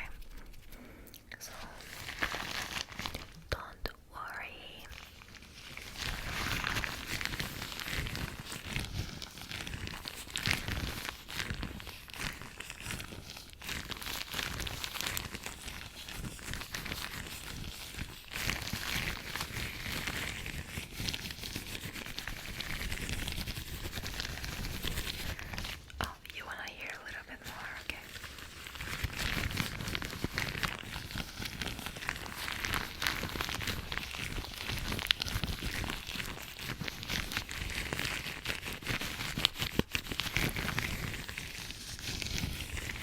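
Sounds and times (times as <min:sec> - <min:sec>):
latex gloves rubbing and crinkling: 0:00.0 - 0:03.5, 0:04.5 - 0:43.0.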